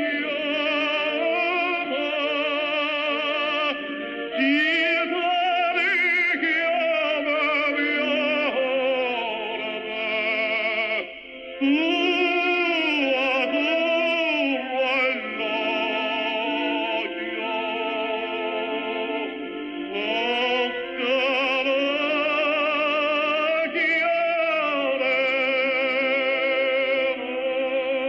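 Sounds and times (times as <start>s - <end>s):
operatic music with vibrato: 0.0s - 28.0s.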